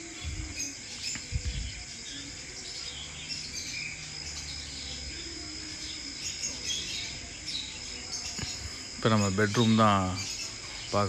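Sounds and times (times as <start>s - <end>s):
faint chirps: 0.0s - 11.0s
insects buzzing: 0.0s - 11.0s.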